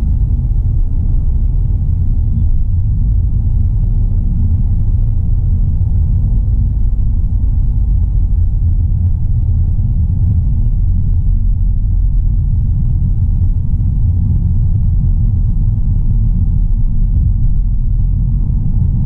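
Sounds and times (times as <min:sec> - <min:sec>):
car driving low rumble: 0:00.0 - 0:19.0.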